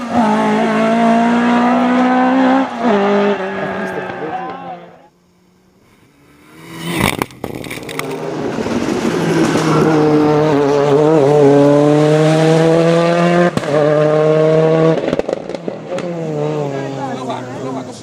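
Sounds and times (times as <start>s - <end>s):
rally car engine at high revs: 0.0s - 5.0s, 6.2s - 18.0s.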